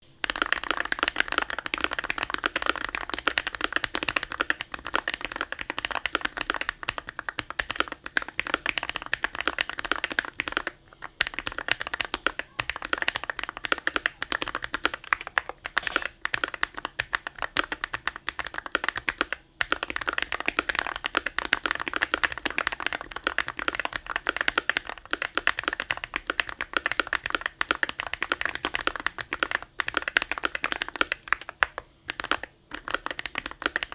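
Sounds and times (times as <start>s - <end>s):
fast mechanical keyboard typing: 0.1s - 33.9s.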